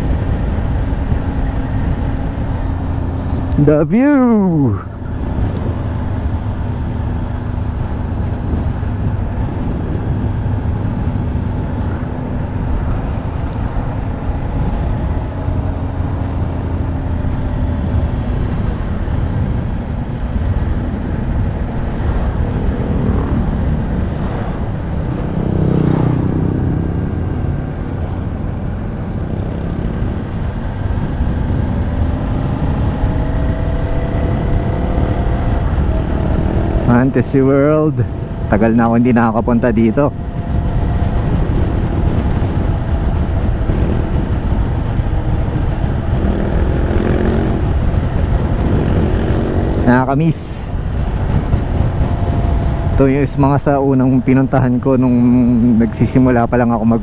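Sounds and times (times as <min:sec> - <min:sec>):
motorcycle engine cruising: 0:00.0 - 0:57.0
wind on microphone: 0:00.0 - 0:57.0.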